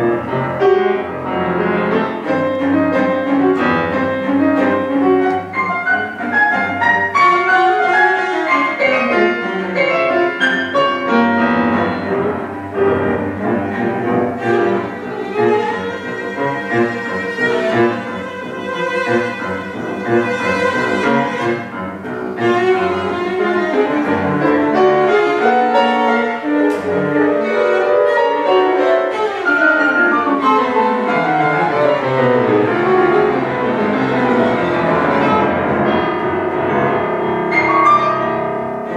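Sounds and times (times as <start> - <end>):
bowed cello line: 0.0 - 38.9
piano figures: 0.0 - 38.9.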